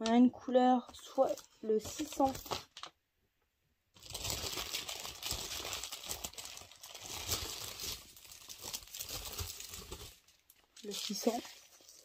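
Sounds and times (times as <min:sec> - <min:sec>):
plastic packaging crinkling: 0:01.1 - 0:02.9, 0:04.0 - 0:12.0.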